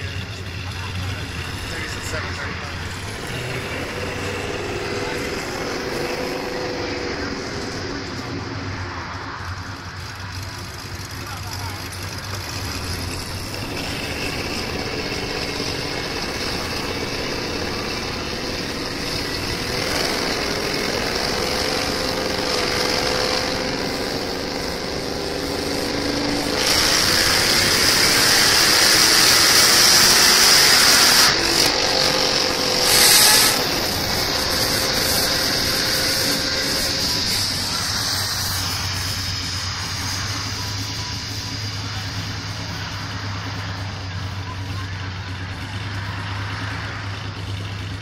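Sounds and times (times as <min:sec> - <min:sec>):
engine revving under load: 0:00.0 - 0:48.0.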